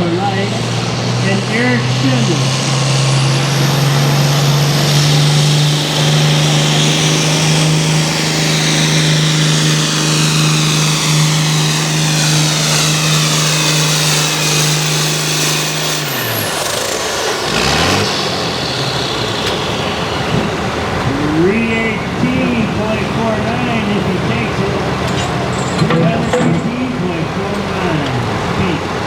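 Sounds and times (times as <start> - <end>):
engine rev: 0.0 - 29.0
high whine: 0.0 - 29.0
tractor engine running flat out: 0.0 - 29.0.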